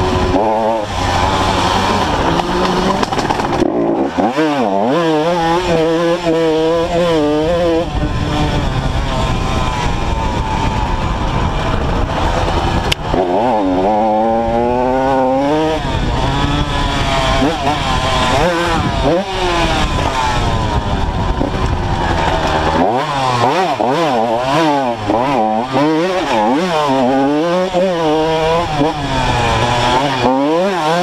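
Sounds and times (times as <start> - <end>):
wind rushing on microphone: 0.0 - 4.2, 5.4 - 30.3
motocross bike engine revving: 0.0 - 31.0.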